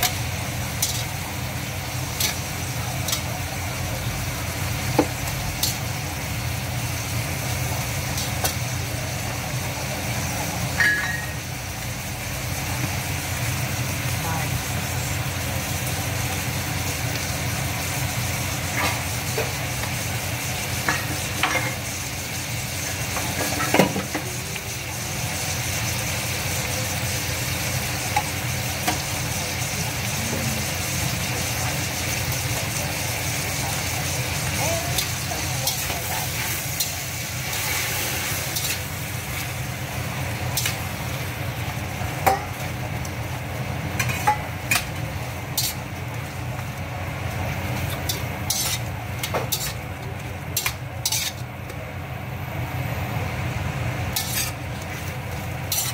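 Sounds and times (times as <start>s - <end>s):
shrimp sizzling in a pan: 0.0s - 55.9s.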